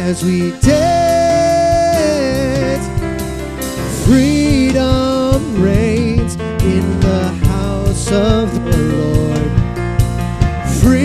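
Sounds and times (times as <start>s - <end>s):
church band playing worship song: 0.0s - 11.0s.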